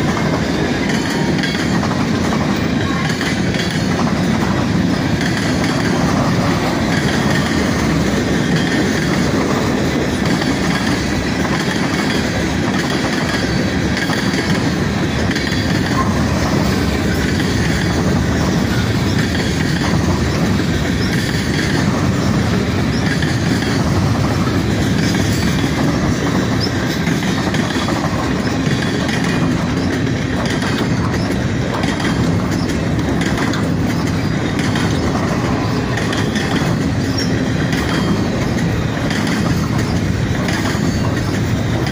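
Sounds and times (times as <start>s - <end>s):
train wheels rolling on rails: 0.0s - 41.9s.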